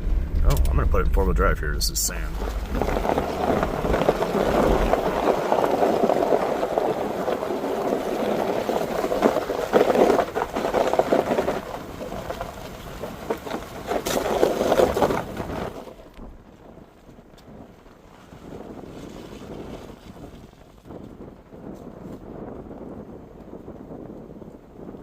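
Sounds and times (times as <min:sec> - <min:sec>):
truck tyres rumbling on dirt: 0:00.0 - 0:25.0.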